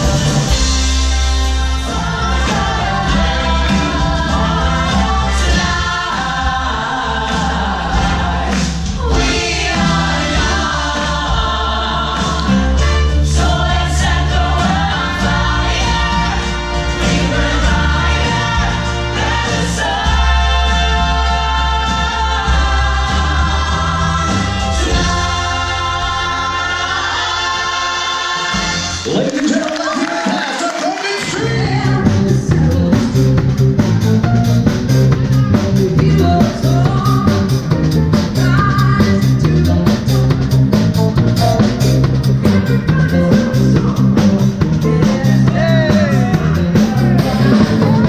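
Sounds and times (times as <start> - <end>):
chorus singing: 0.0 - 29.5, 30.2 - 48.0
band accompaniment: 0.0 - 48.0.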